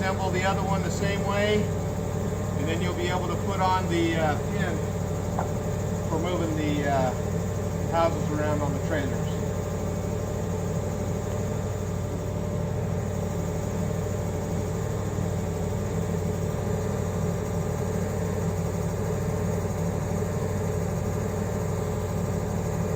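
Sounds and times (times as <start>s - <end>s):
motor humming: 0.0s - 18.7s.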